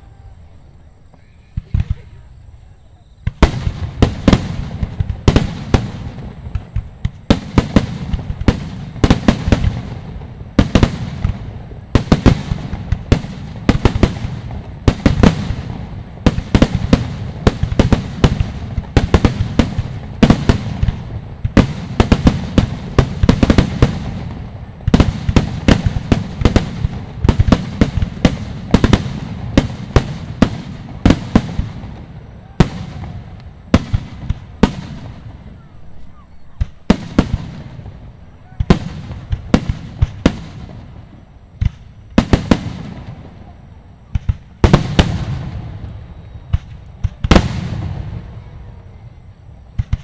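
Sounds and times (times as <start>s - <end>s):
fireworks bursting: 0.0s - 50.0s.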